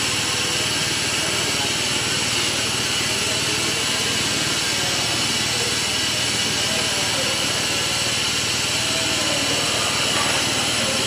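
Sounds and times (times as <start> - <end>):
machine rollers running: 0.0 - 11.0.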